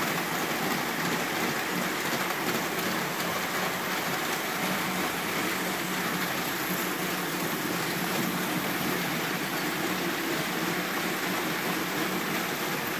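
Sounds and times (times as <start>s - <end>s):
model train wheels rumbling: 0.0s - 12.9s.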